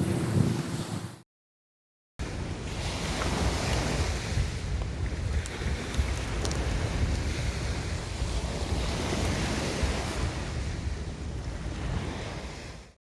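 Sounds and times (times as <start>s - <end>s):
wind buffeting microphone: 0.0s - 1.2s, 2.2s - 13.0s
surf washing on shore: 2.2s - 13.0s.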